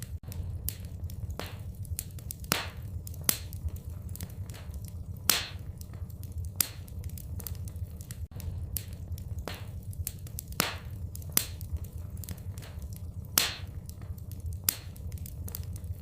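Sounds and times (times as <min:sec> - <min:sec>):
fire popping: 0:00.0 - 0:16.0
low steady rumble: 0:00.0 - 0:16.0
wood fire crackling: 0:00.0 - 0:16.0.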